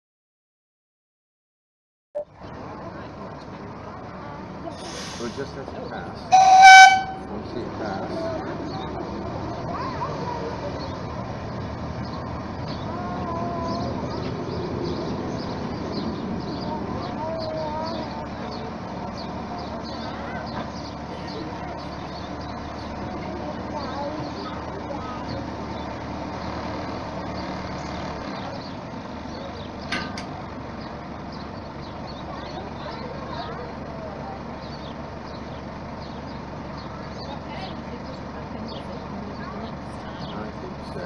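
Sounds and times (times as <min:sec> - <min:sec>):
locomotive engine rumbling: 0:02.2 - 0:41.0.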